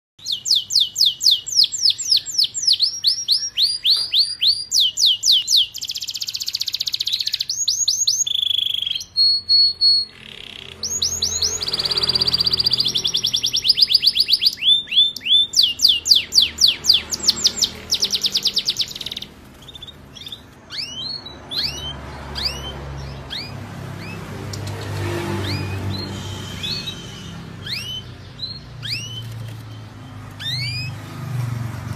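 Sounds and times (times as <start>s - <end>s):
canary singing: 0.2s - 31.9s.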